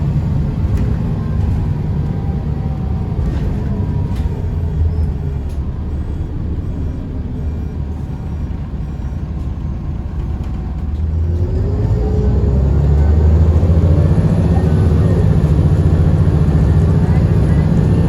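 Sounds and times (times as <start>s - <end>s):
diesel bus engine rumbling: 0.0s - 18.0s.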